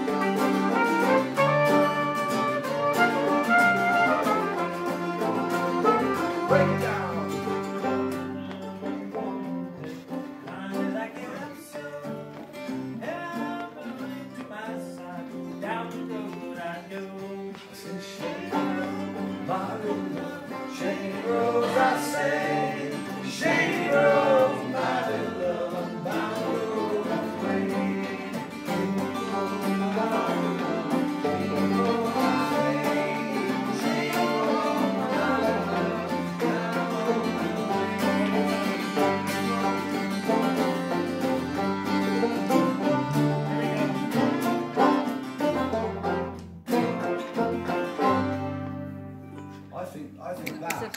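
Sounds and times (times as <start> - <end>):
electric guitar: 0.0 - 49.7
fiddle: 0.0 - 49.7
plucked strings: 0.0 - 50.9
strummed acoustic guitars: 0.0 - 50.9.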